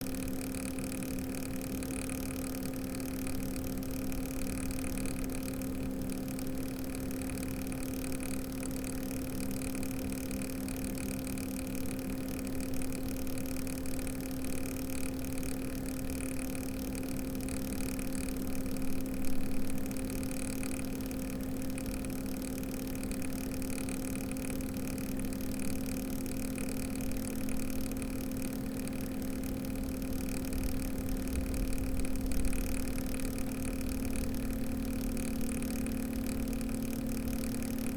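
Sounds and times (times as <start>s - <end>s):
cooler pump and fans humming: 0.0s - 37.9s.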